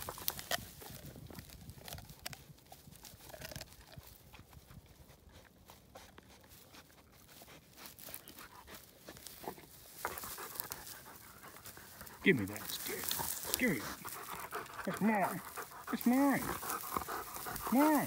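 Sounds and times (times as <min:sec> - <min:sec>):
dog gnawing on wooden stick: 0:00.0 - 0:18.0
dry grass crackling: 0:00.0 - 0:18.0.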